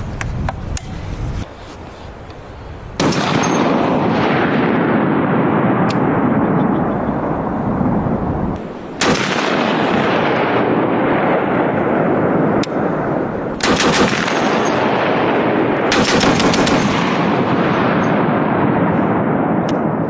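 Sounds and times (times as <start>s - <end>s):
rolling echo: 2.9s - 20.0s
gunshots: 3.0s - 7.7s, 8.6s - 20.0s.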